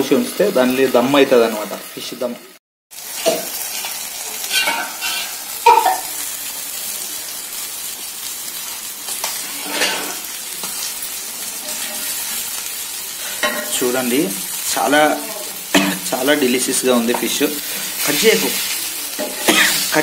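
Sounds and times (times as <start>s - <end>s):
fish sizzling on a hot griddle: 0.0s - 20.0s.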